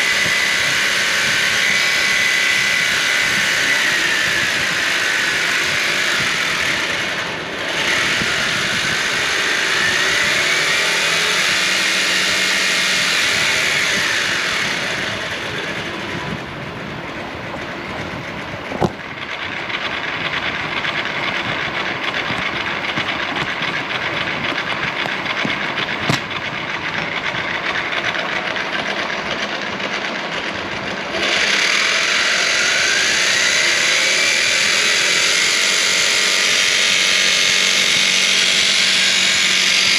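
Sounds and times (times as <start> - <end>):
motor gear whine and rattle: 0.0 - 39.9.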